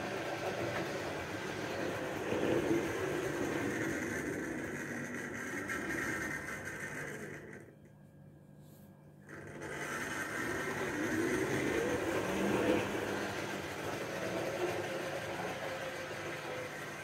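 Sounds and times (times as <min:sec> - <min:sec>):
model train rumbling on track: 0:00.0 - 0:07.7, 0:09.3 - 0:17.0.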